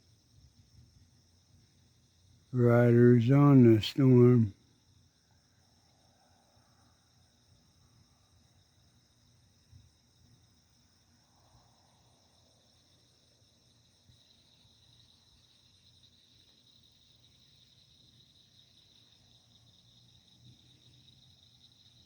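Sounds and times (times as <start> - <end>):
night insects trilling: 0.0 - 22.0.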